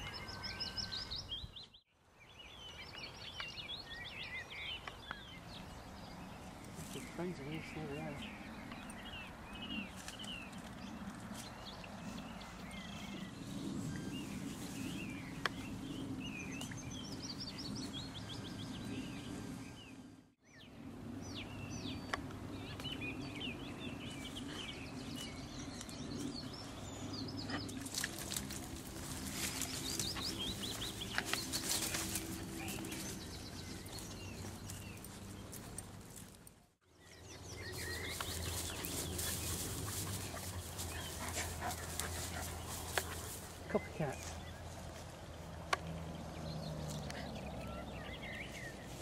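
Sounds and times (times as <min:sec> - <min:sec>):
small birds chirping and singing: 0:00.0 - 0:49.0.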